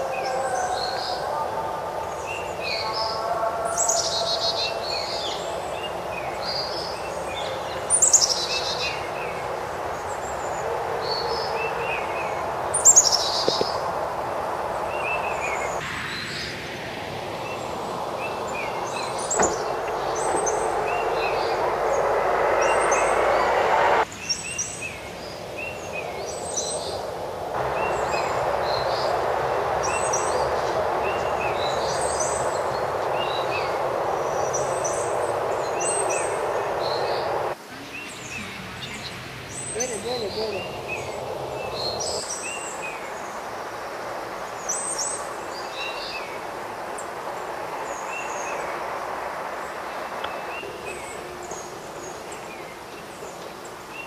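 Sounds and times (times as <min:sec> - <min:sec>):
steady background rush: 0:00.0 - 0:37.6, 0:38.2 - 0:54.0
birds chirping and calling: 0:00.0 - 0:54.0.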